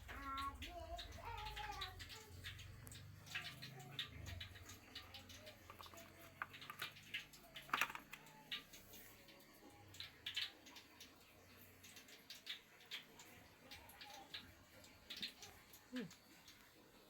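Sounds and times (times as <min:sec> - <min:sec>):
small objects clicking and tapping: 0:00.0 - 0:16.7.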